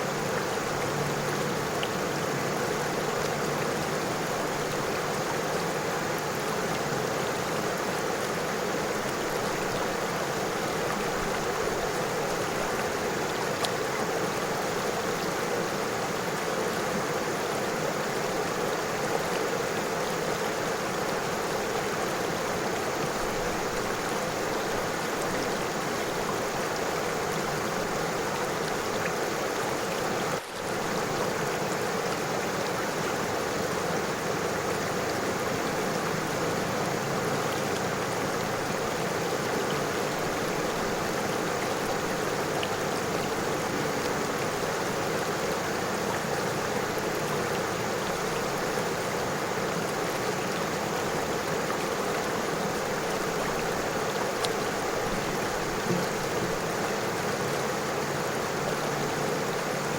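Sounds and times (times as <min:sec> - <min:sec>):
river water running over stones: 0:00.0 - 0:59.9.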